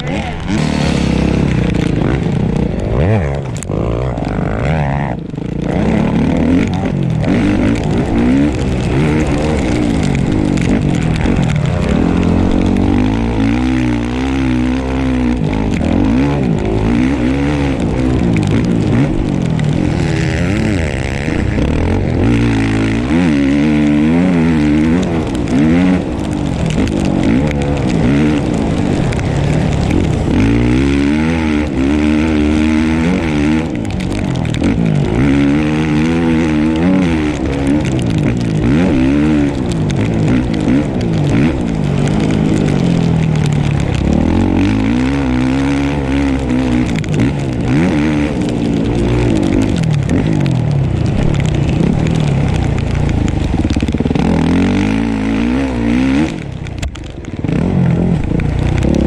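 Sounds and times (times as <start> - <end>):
dirt bike engine revving: 0.0 - 56.7.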